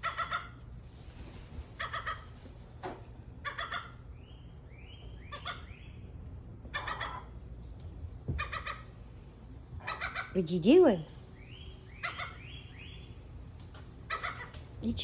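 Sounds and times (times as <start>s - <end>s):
birds clucking calls: 0.0s - 10.5s, 11.2s - 14.8s.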